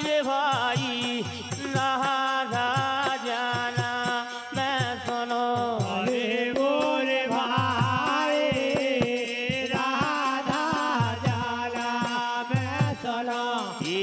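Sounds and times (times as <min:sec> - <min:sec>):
voices singing devotional melody: 0:00.0 - 0:14.0.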